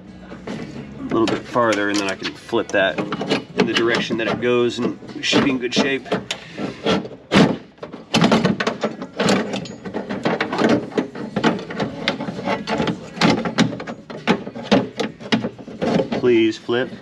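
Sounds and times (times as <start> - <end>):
metal clattering against car door: 0.4 - 17.0.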